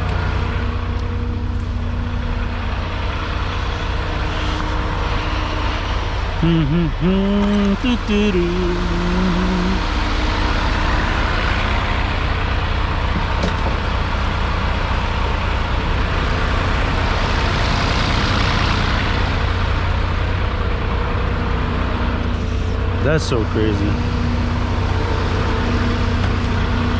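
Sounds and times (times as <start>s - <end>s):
heavy vehicle engine running: 0.0s - 26.9s
road and tyre noise: 0.0s - 26.9s.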